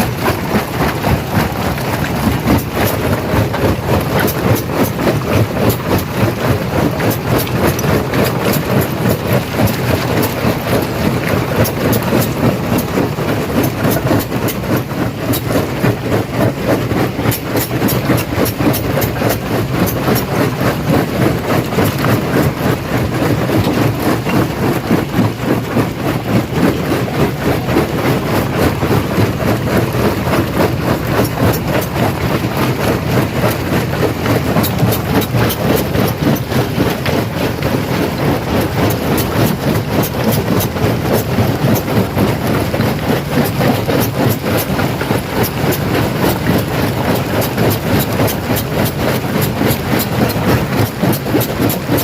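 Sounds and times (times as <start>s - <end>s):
rock crusher machine drone: 0.0s - 52.0s.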